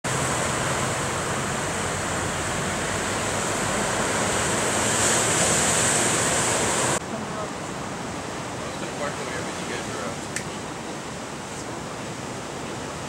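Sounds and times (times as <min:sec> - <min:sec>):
surf breaking over rocks: 0:00.1 - 0:13.0.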